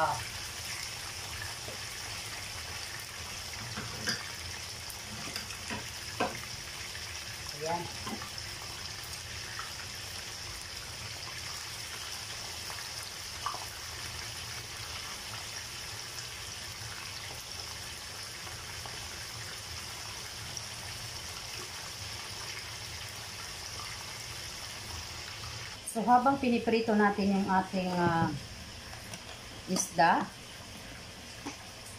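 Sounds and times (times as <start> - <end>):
fish sizzling in hot oil: 0.0 - 31.9.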